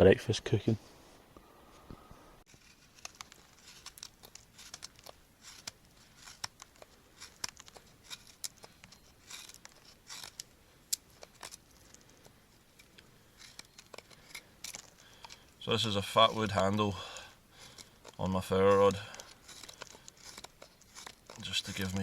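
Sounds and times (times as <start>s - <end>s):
hands rustling dry tinder: 2.5s - 22.0s.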